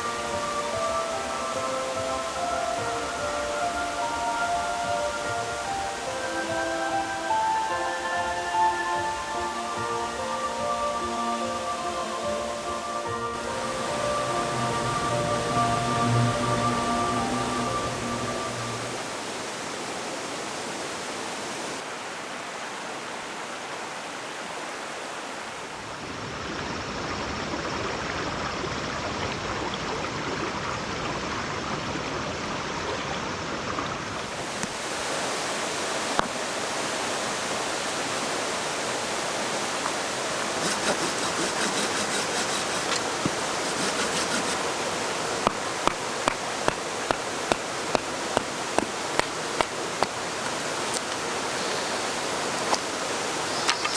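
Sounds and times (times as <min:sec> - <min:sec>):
mountain stream rushing: 0:00.0 - 0:53.9.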